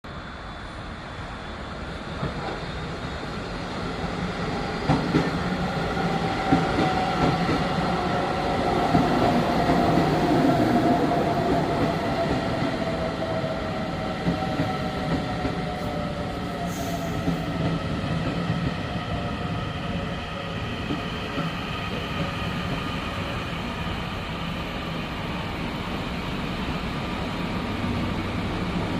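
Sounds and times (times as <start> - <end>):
train running drone: 0.1 - 28.9.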